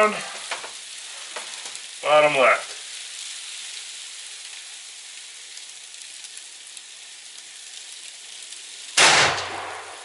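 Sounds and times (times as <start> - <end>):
freezing rain and sleet falling: 0.0 - 10.0.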